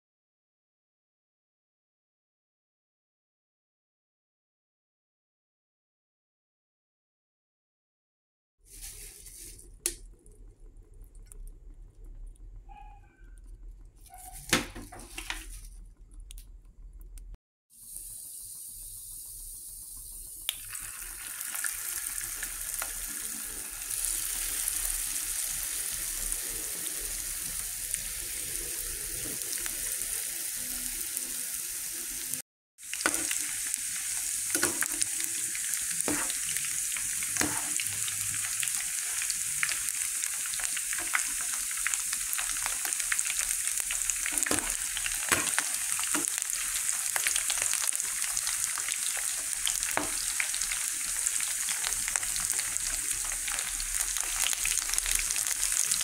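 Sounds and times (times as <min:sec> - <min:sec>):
chicken frying in hot oil: 0:08.6 - 0:56.0.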